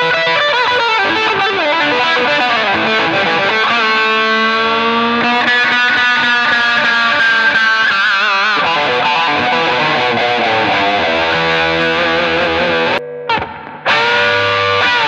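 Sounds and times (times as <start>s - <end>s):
overdriven electric guitar lead: 0.0s - 15.0s.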